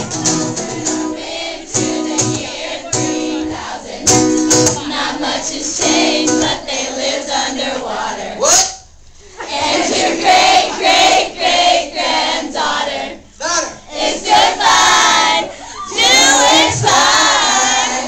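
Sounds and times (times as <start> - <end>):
crowd singing along: 0.0 - 8.4, 9.4 - 13.3, 13.9 - 18.0
acoustic live performance: 0.0 - 13.3, 14.0 - 18.0.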